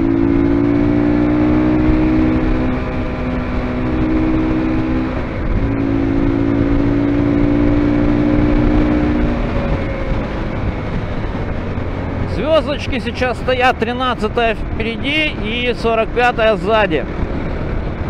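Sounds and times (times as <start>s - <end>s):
motorcycle engine cruising: 0.0s - 18.0s
wind rushing over microphone: 0.0s - 18.0s.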